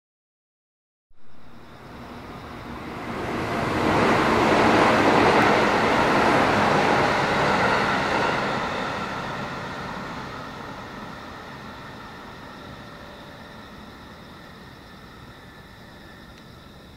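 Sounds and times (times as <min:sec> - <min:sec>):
train wheels on rail: 0:01.5 - 0:16.9.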